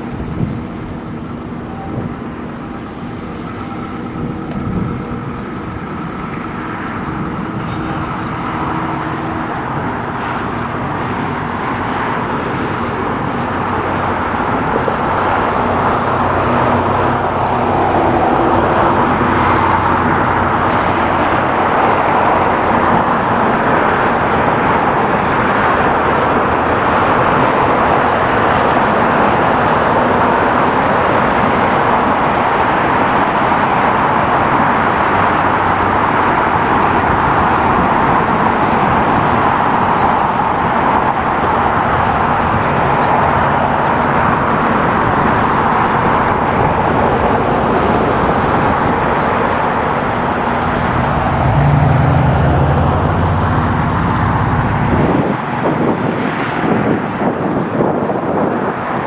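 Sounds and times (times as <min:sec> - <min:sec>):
jet engine roar: 0:00.0 - 0:59.0.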